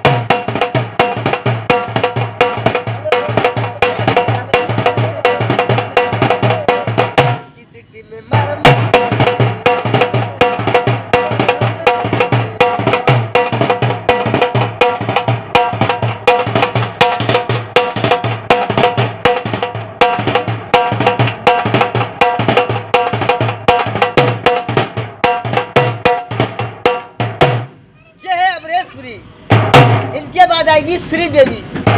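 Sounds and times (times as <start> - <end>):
fast steady drumming: 0.0 - 28.4, 29.4 - 31.9.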